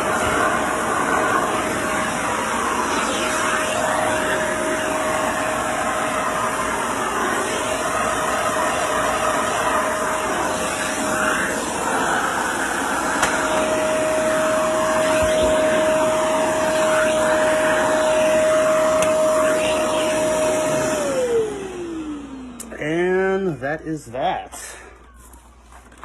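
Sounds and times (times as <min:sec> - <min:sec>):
vacuum cleaner running: 0:00.0 - 0:23.6.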